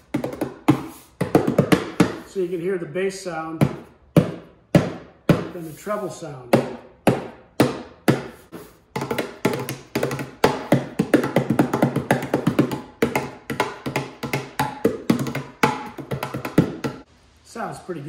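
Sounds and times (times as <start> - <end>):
hands striking box drum: 0.1 - 2.2, 3.6 - 5.6, 6.5 - 17.0.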